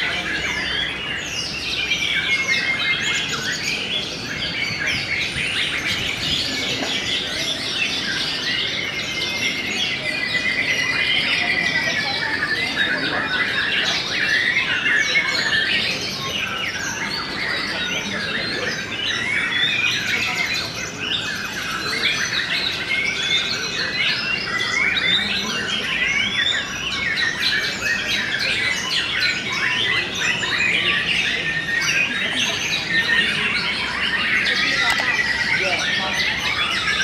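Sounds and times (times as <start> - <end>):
chorus of songbirds singing: 0.0 - 37.0.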